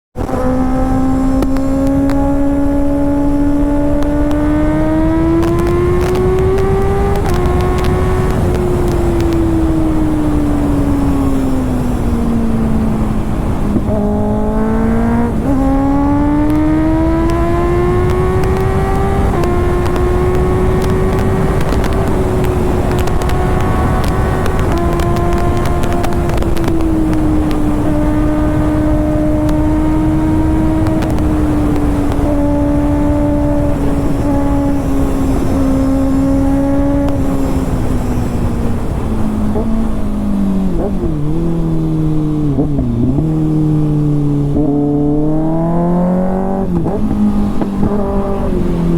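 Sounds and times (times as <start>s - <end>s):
motorcycle engine revving: 0.1s - 48.9s.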